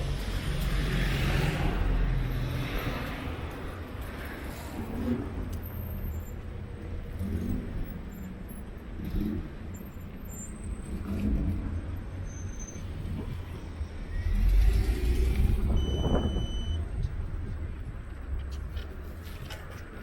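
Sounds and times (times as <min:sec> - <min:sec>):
car rumbling on the move: 0:00.0 - 0:20.0.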